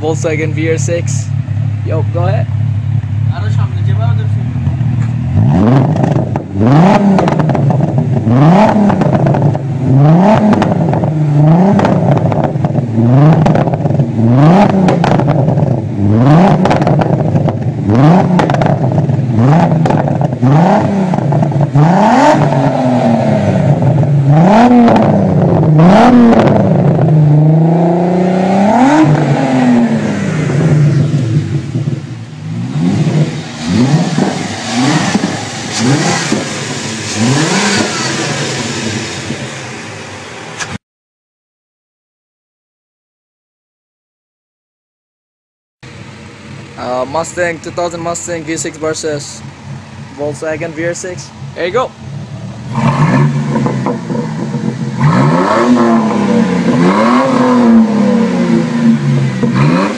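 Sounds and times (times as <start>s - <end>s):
car engine revving: 0.0s - 40.8s, 45.8s - 59.9s.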